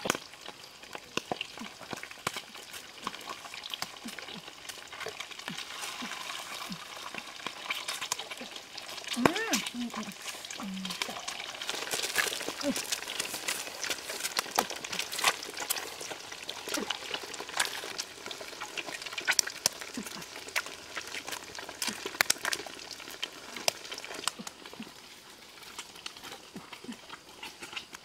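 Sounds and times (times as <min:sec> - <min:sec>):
eggs sizzling in oil: 0:00.0 - 0:28.0
sharp pops and crackles: 0:00.0 - 0:28.0.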